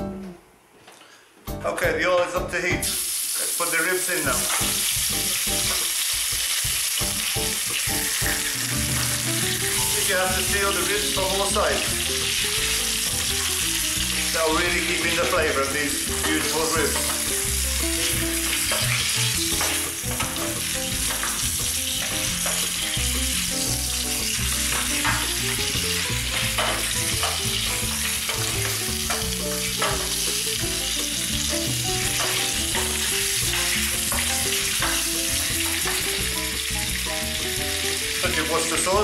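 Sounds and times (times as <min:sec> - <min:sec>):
ribs sizzling in hot oil: 0:02.8 - 0:39.0.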